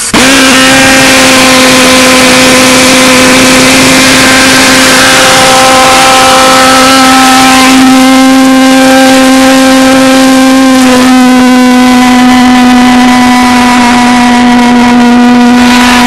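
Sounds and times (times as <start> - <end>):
pulsejet engine buzzing drone: 0.0 - 16.0.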